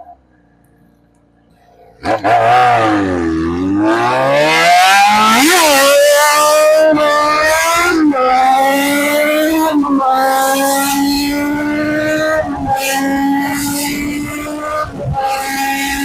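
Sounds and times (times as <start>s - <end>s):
motorcycle engine revving: 1.9s - 16.0s.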